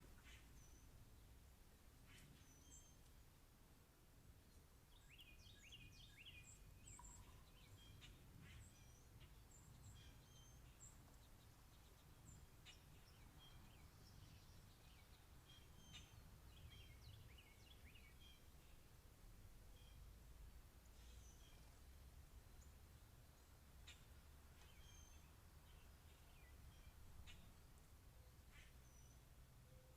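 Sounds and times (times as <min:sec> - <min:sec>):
faint birds chirping: 0:00.0 - 0:29.9.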